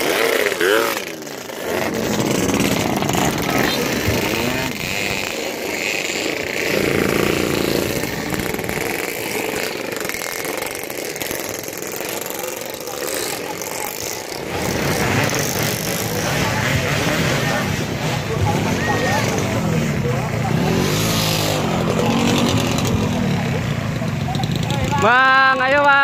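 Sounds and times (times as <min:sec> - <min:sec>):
motorcycle engines passing: 0:00.0 - 0:26.0.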